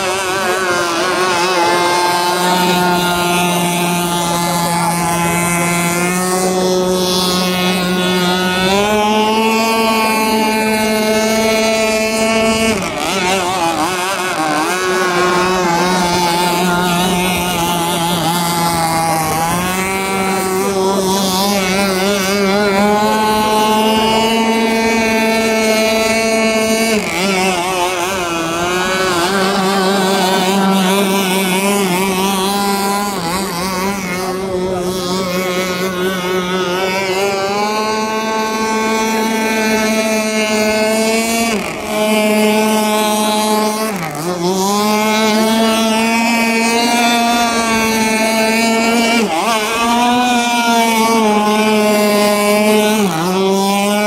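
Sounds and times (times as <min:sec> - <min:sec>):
model speedboat engine revving: 0:00.0 - 0:54.0.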